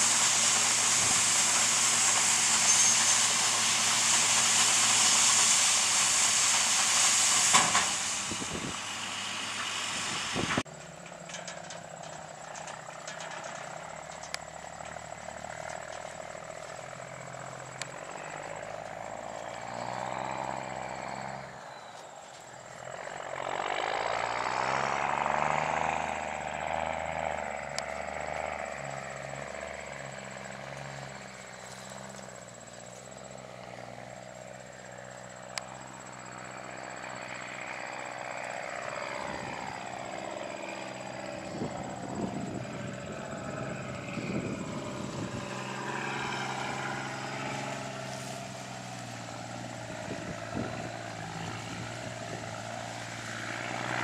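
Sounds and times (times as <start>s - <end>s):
diesel harvest machinery running: 0.0s - 54.0s.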